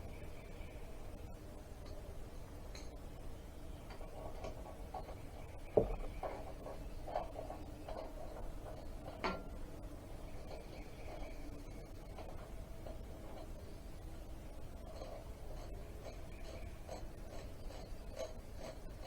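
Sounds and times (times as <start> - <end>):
low steady background noise: 0.0 - 19.0.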